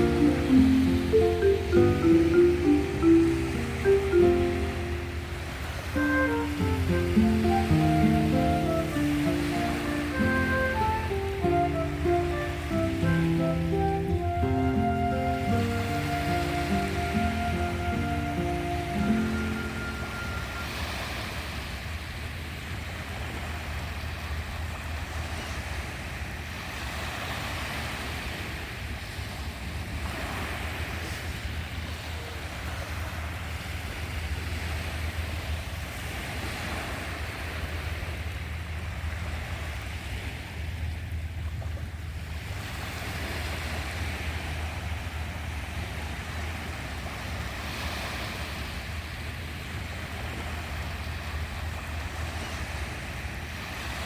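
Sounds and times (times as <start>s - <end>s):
low rumble of surf: 0.0s - 54.0s
sea waves washing ashore: 0.0s - 54.0s.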